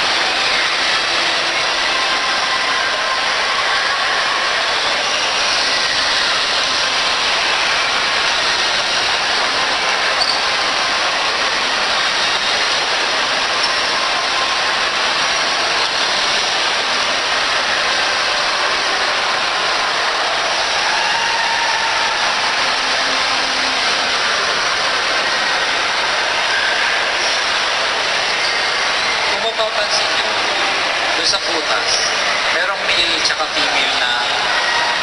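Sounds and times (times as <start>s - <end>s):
crowd din in mall hall: 0.0s - 35.0s.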